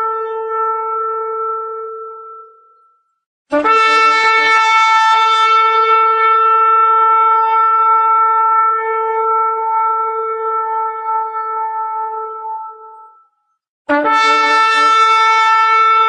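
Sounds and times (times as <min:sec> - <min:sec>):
shofar blast: 0:00.0 - 0:02.8, 0:03.5 - 0:13.2, 0:13.9 - 0:16.0.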